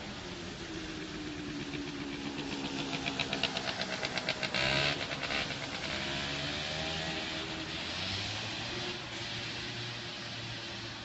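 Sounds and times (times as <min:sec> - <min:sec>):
car engine hum: 0:00.0 - 0:11.0
water hissing under tyres: 0:00.0 - 0:11.0.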